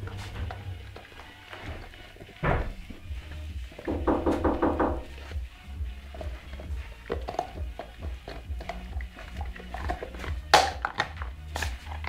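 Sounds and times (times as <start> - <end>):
dog gnawing on a bone: 0.0 - 3.9, 5.1 - 12.0.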